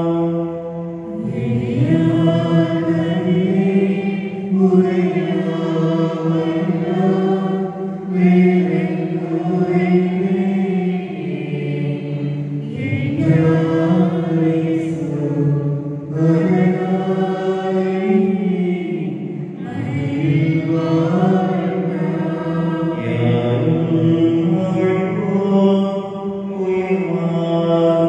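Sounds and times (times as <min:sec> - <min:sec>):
slow devotional chant: 0:00.0 - 0:28.0.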